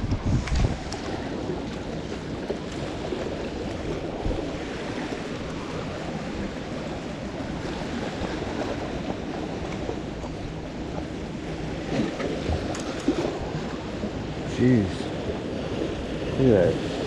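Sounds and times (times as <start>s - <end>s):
surf washing against boulders: 0.0s - 17.0s.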